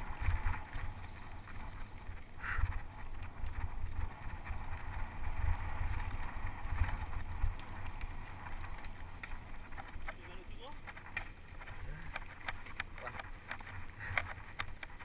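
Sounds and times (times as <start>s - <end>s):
bike rattling: 0.0s - 15.0s
wind buffeting microphone: 0.0s - 15.0s.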